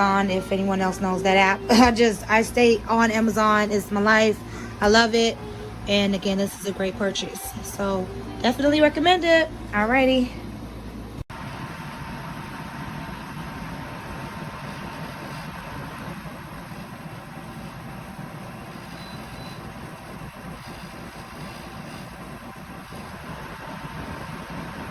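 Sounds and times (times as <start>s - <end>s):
air conditioner whooshing and humming: 0.0s - 24.9s.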